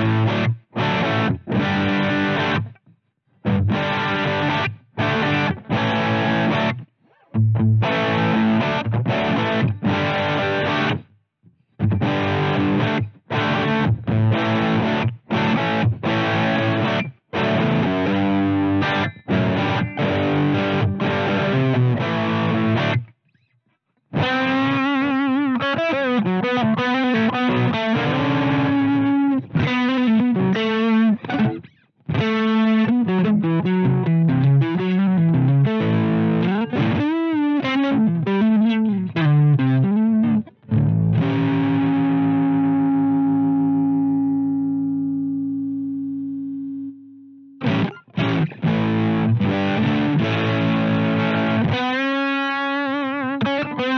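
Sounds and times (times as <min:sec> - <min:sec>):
distorted electric guitar: 0:00.0 - 0:11.1, 0:11.8 - 0:23.5, 0:24.1 - 0:53.9.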